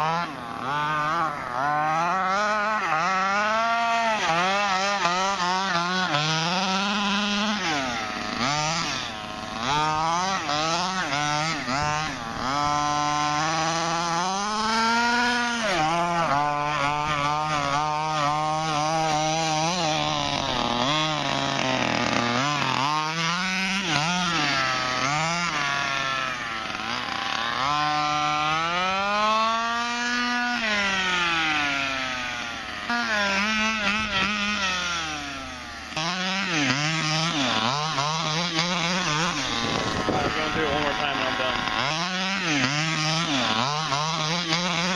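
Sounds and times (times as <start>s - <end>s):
two-stroke engine revving: 0.0s - 44.9s.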